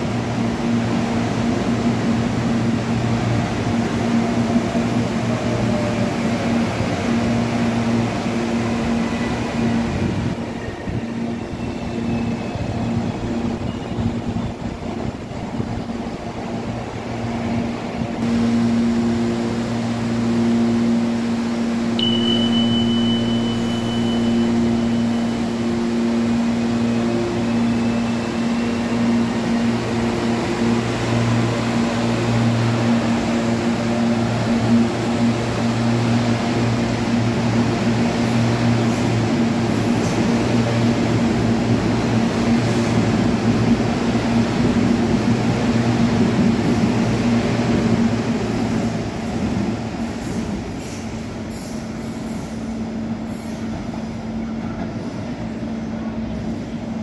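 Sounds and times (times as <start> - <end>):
wheels rushing on rails: 0.0 - 57.0.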